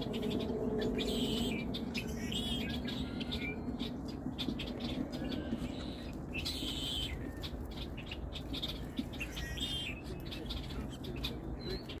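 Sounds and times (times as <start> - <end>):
low background rumble: 0.0 - 12.0
small birds chirping: 0.0 - 12.0.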